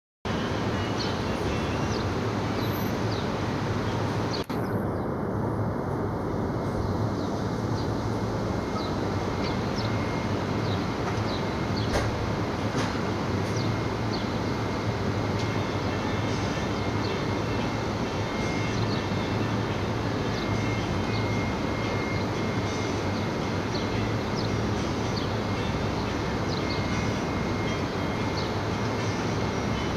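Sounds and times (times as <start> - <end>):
steady rushing noise: 0.3 - 29.9.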